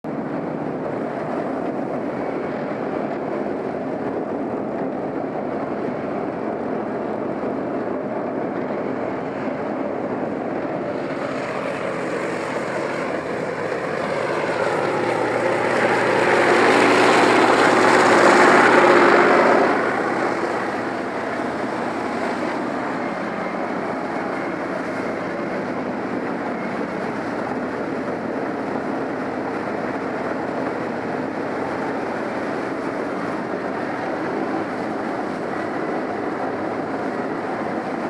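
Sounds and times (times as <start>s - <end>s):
tank diesel engine running: 0.1s - 38.0s.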